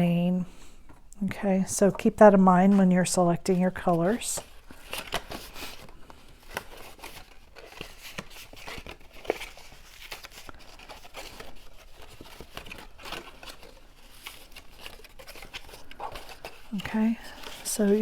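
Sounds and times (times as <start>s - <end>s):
paper rustling and crinkling: 2.0s - 18.0s.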